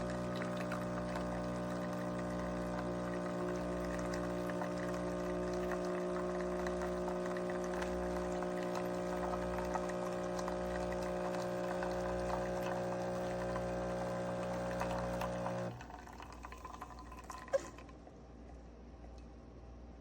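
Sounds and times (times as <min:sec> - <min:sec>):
coffee streaming into cup: 0:00.0 - 0:18.0
coffee maker pump humming: 0:00.0 - 0:18.1.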